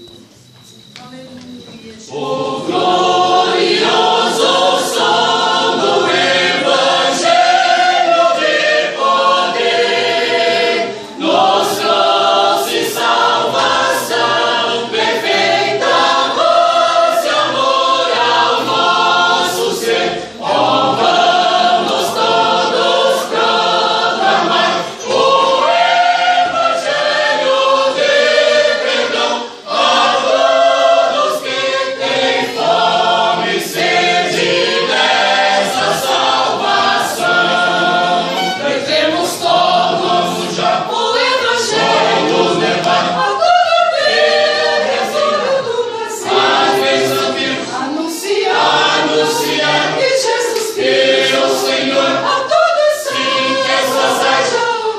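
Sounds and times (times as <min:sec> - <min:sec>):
church choir singing a hymn: 0:01.8 - 0:54.9.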